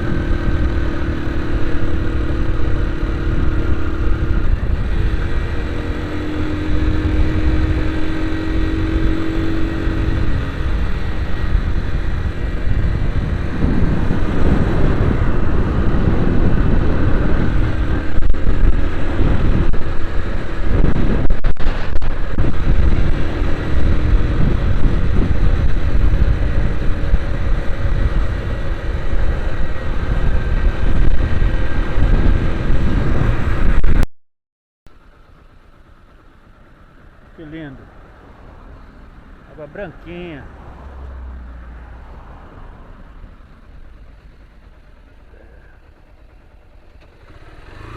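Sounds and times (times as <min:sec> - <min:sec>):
vehicle engine and road noise: 0:00.0 - 0:34.1, 0:34.9 - 0:47.9.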